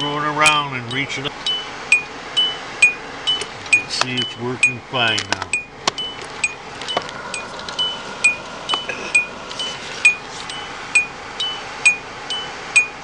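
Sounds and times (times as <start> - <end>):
car warning chime dinging: 0.0 - 13.0.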